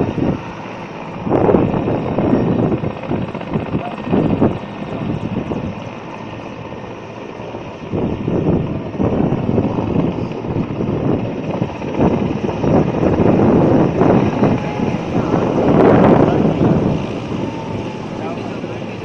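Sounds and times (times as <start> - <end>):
helicopter rotor and engines: 0.0 - 19.0.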